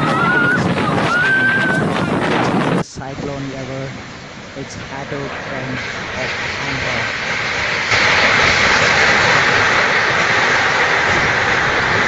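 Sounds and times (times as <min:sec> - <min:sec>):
driving rain: 0:00.0 - 0:12.0
strong wind: 0:00.0 - 0:12.0.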